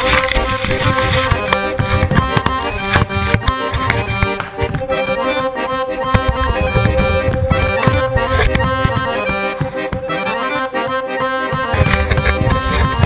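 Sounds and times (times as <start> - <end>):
instrumental music with beat: 0.0 - 13.0.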